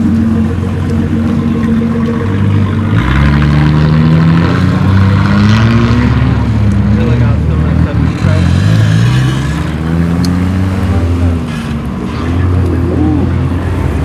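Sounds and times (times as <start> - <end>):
car engine accelerating away: 0.0 - 14.0
car engines running: 0.0 - 14.0.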